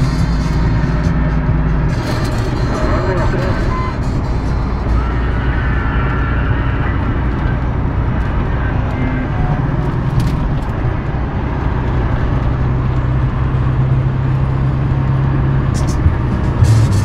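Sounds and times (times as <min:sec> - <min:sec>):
car engine drone: 0:00.0 - 0:17.0
tyre noise on road: 0:00.0 - 0:17.0.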